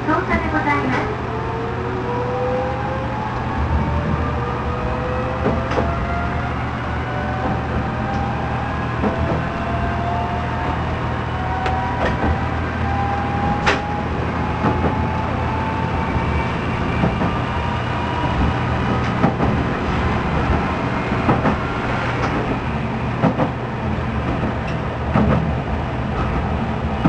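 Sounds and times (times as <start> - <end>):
diesel engine drone: 0.0 - 27.0.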